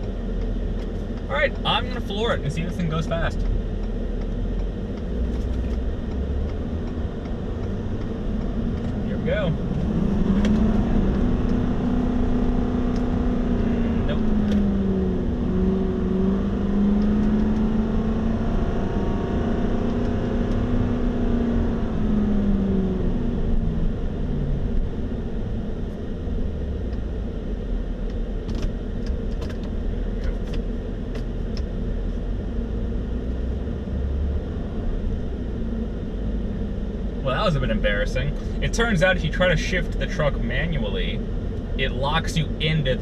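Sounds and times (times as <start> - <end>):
diesel engine at high revs: 0.0 - 43.0.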